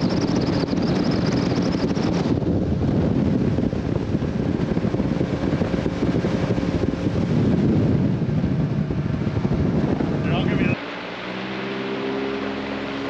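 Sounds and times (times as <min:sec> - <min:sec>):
hull moving through water: 0:00.0 - 0:13.0
outboard motor running: 0:00.0 - 0:13.0
wind on microphone: 0:00.0 - 0:13.0.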